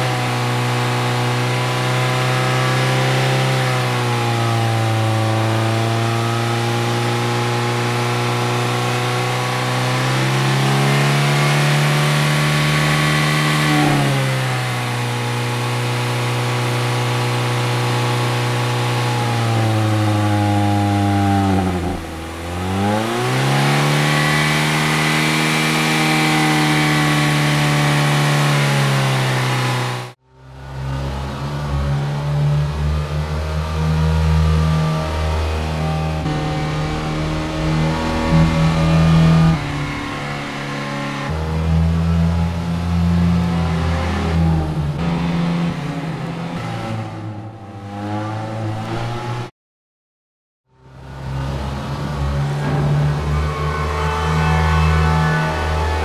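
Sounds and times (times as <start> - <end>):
car engine revving: 0.0 - 49.5, 51.0 - 56.0.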